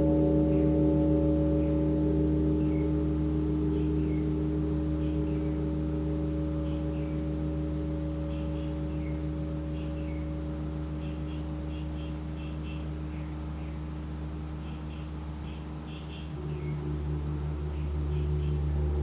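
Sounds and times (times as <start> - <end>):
gong ringing: 0.0 - 13.2, 16.2 - 19.0.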